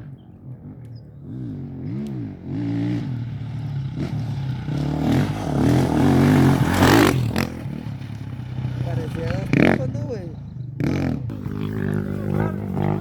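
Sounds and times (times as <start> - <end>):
race vehicle engine revving: 0.0 - 13.0.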